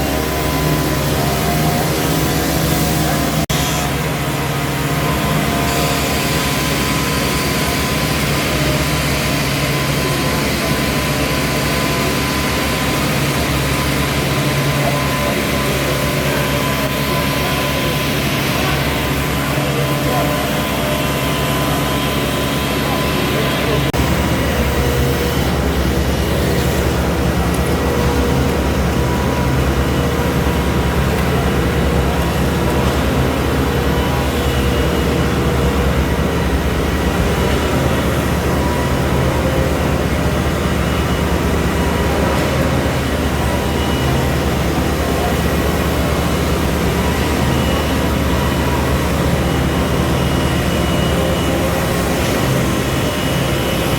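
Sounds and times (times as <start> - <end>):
concrete-pouring machinery droning: 0.0 - 53.9.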